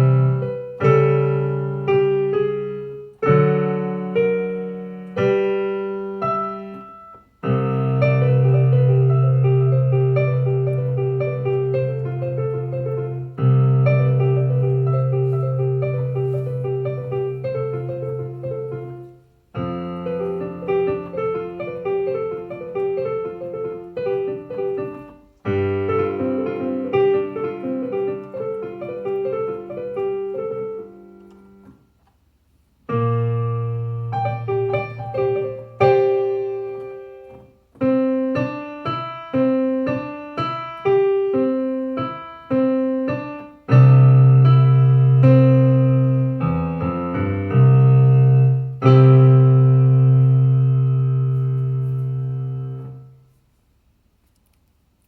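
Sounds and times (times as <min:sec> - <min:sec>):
piano chords over bass notes: 0:00.0 - 0:31.8, 0:32.9 - 0:53.2.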